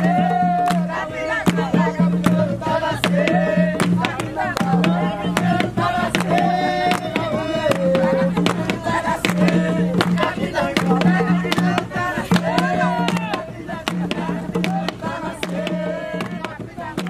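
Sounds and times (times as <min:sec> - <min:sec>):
hand drums beating: 0:00.0 - 0:17.0
voices singing: 0:00.0 - 0:17.0.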